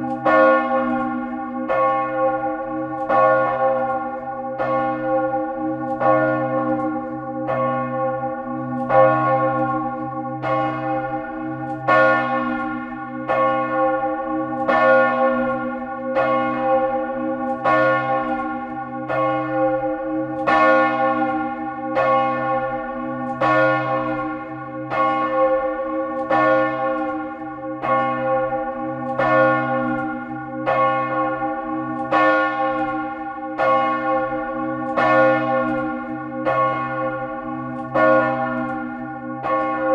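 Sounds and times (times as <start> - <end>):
large church bell pealing: 0.0 - 39.9.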